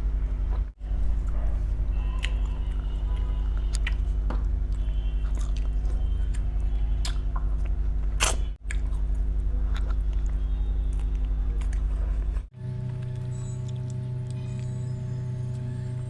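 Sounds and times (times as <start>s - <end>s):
low electrical hum: 0.0s - 16.0s
chewing and crunching food: 0.5s - 15.8s.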